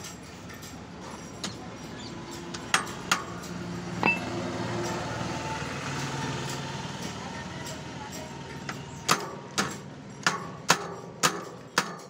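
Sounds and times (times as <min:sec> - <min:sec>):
sharp metallic clinks: 0:00.0 - 0:12.0.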